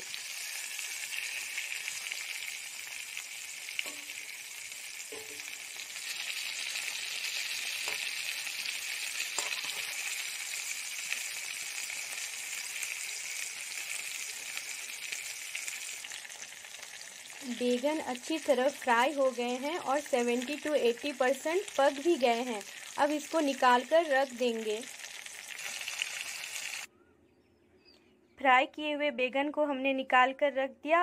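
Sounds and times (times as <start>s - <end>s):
vegetables sizzling in hot oil: 0.0s - 26.9s.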